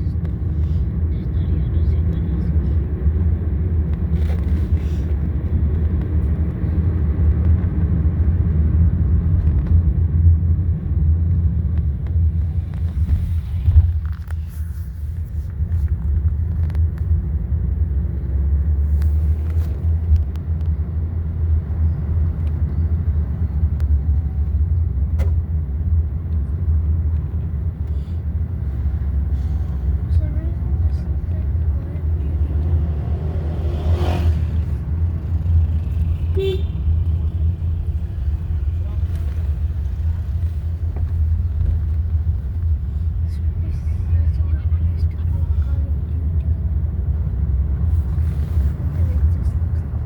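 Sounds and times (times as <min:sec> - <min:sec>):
car road and engine rumble: 0:00.0 - 0:50.0.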